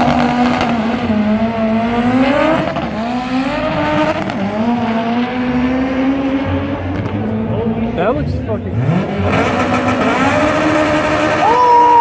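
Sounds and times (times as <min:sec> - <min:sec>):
drag racing engine at high revs: 0:00.0 - 0:12.0.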